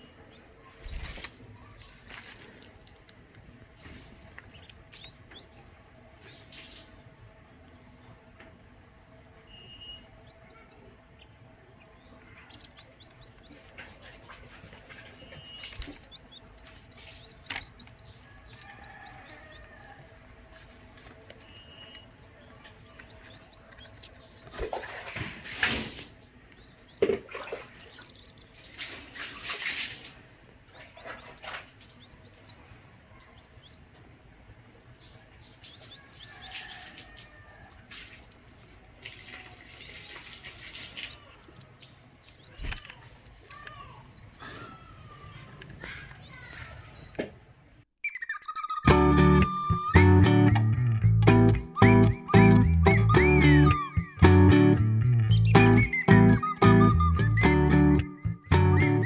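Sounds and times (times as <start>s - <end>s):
chick peeping: 0.0s - 7.4s, 9.5s - 29.4s, 30.2s - 47.2s, 48.8s - 59.0s.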